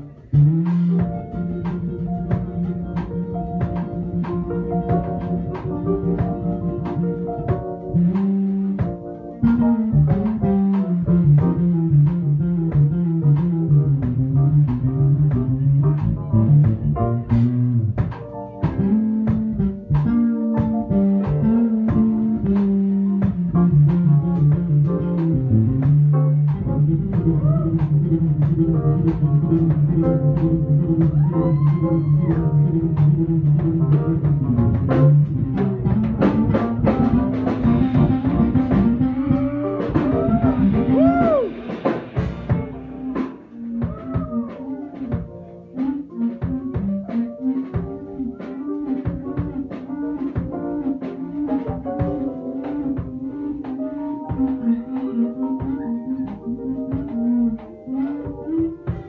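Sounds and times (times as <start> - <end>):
electric bass line: 0.0 - 59.0
live band playing: 0.0 - 59.0.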